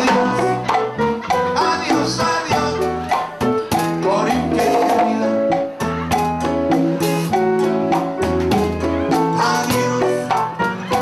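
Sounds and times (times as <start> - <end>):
acoustic guitar melody: 0.0 - 11.0
congas: 0.0 - 11.0
drum kit: 0.0 - 11.0.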